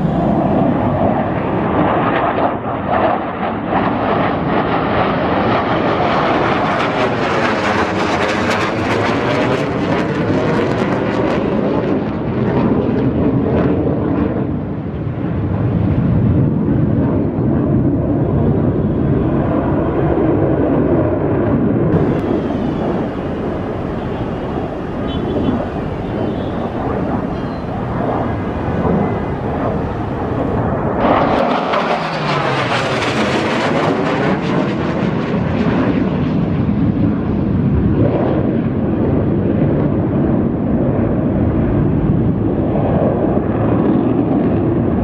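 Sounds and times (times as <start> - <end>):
jet engines rushing: 0.0 - 45.0.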